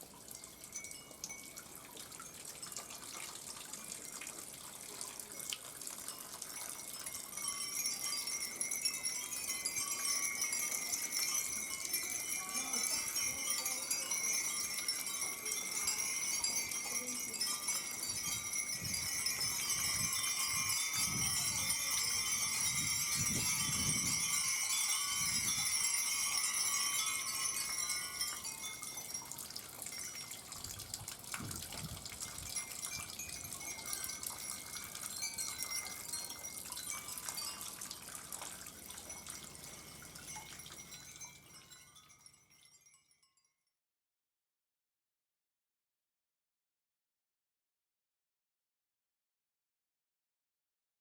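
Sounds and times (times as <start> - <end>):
wind bells tinkling: 0.0 - 43.6.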